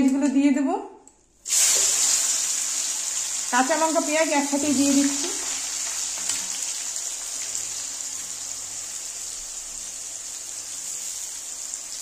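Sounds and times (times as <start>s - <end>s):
onions sizzling in hot oil: 1.4s - 12.0s.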